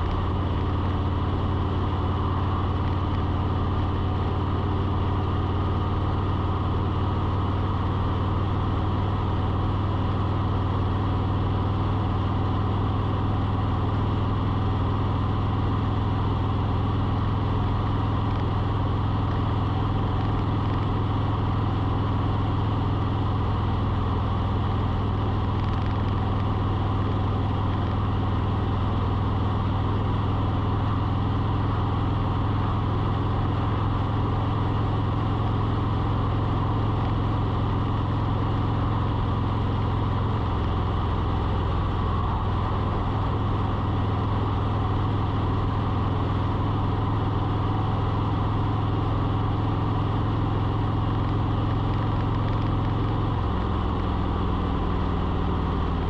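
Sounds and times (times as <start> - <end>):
low engine hum: 0.0 - 56.0.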